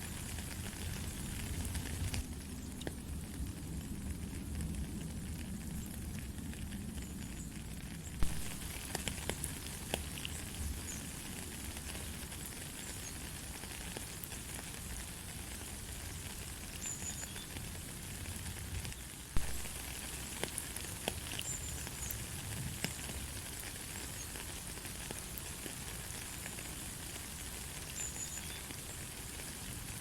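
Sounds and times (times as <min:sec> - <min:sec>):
light rain hiss: 0:00.0 - 0:30.0.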